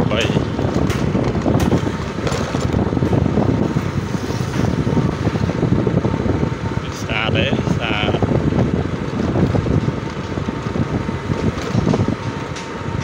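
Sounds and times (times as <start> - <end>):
scooter engine running: 0.0 - 6.7, 8.2 - 13.0
tyres on rough dirt road: 0.0 - 13.0.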